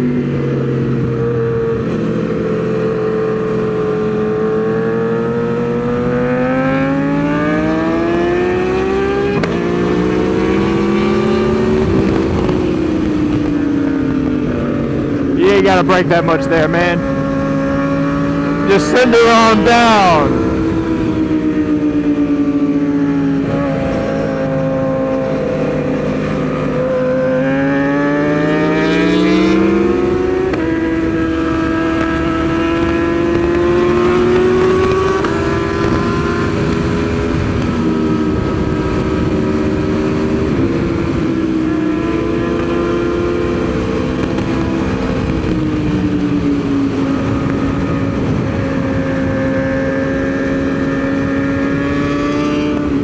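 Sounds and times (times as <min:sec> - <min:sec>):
motorcycle engine at speed: 0:00.0 - 0:53.0.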